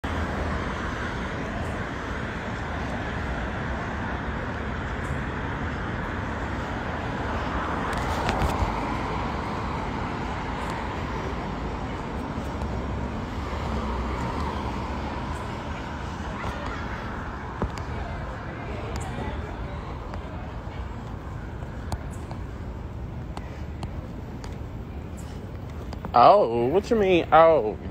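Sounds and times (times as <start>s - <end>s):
road traffic rumble: 0.0s - 27.9s.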